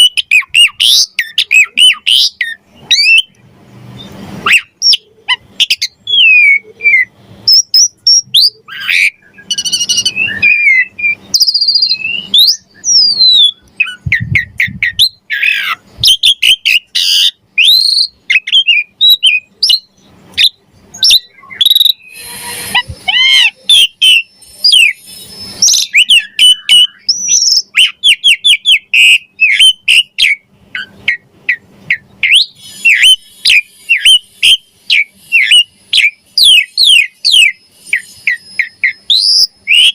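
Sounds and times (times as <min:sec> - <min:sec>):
starling singing: 0:00.0 - 0:03.4, 0:04.0 - 0:39.9.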